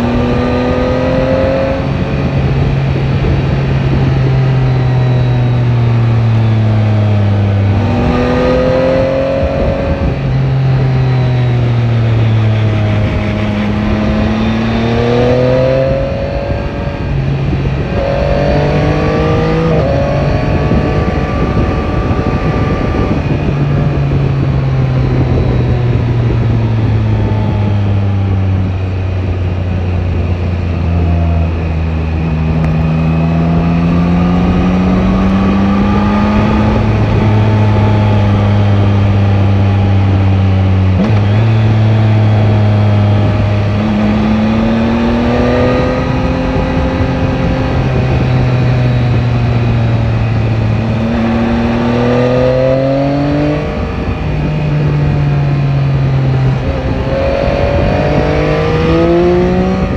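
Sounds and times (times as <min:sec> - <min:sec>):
motorcycle engine under way: 0:00.0 - 0:59.9
wind rush: 0:00.0 - 0:59.9.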